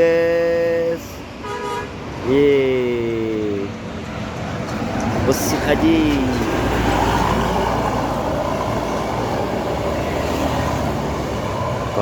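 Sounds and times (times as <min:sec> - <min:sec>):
bus engine and tyres rumbling: 0:00.0 - 0:12.0.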